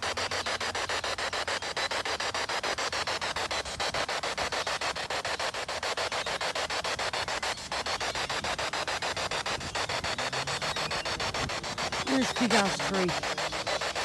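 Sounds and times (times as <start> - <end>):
pulsing radio static: 0.0 - 14.0.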